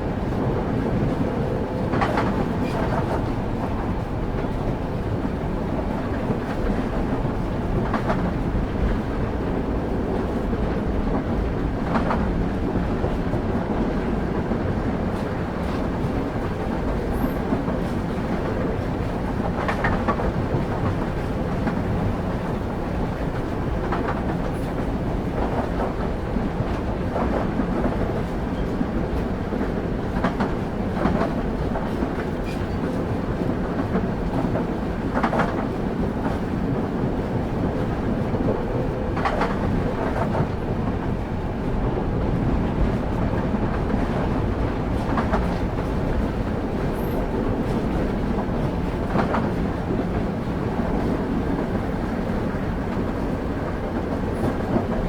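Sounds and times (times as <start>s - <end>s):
train rumbling at speed: 0.0s - 55.0s.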